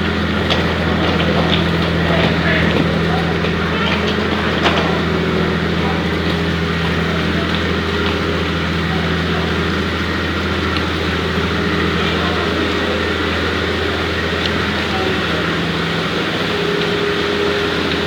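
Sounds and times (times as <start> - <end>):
ferry engines droning: 0.0 - 18.0.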